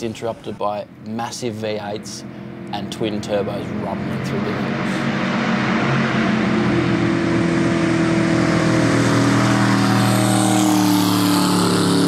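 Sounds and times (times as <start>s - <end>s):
boat engine at speed: 0.2s - 12.0s.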